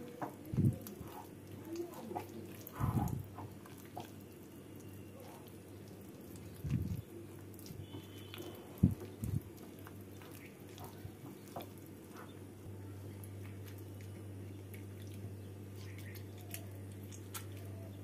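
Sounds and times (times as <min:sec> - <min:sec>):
steady low hum: 0:00.0 - 0:18.0
wet squelching of kneading: 0:00.0 - 0:18.0
wet squishing and dripping: 0:00.0 - 0:18.0.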